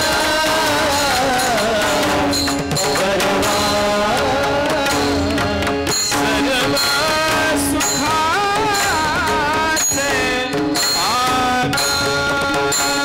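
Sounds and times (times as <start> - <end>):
harmonium: 0.0 - 13.0
person singing: 0.0 - 13.0.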